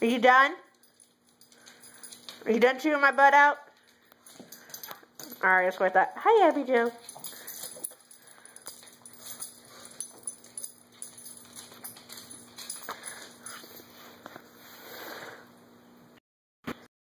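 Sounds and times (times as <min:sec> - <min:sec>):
collar tags jingling: 0:00.0 - 0:14.0.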